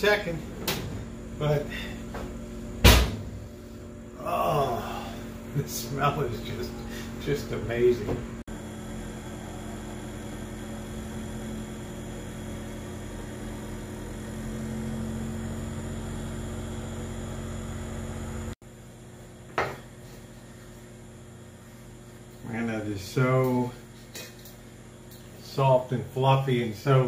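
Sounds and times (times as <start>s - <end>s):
mechanical hum: 0.0s - 27.0s.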